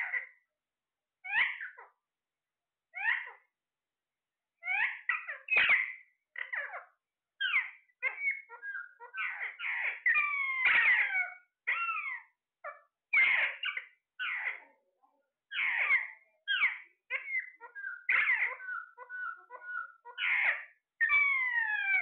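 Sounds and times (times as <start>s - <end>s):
parrot squawking and chirping: 0.0s - 0.4s, 1.2s - 2.0s, 2.9s - 3.5s, 4.6s - 14.7s, 15.5s - 22.0s.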